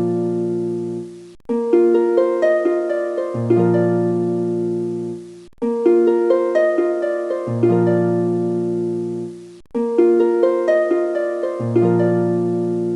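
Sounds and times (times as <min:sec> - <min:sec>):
plucked string music: 0:00.0 - 0:12.9.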